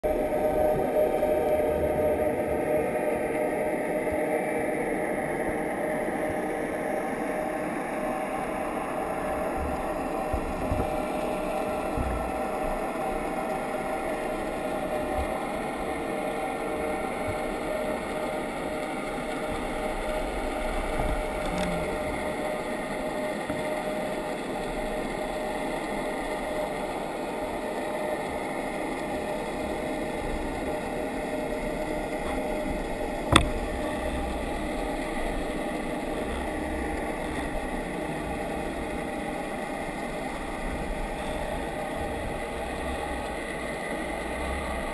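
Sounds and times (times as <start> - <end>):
boat engine drone underwater: 0.0 - 44.9.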